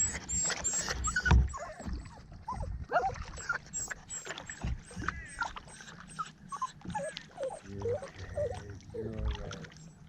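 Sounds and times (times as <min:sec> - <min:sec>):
dog whining: 0:00.0 - 0:08.6.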